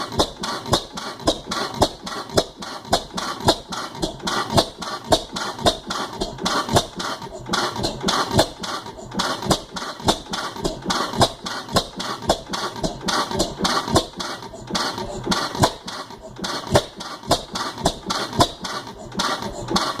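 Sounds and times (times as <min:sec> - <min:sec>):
gas engine knocking: 0:00.0 - 0:20.0.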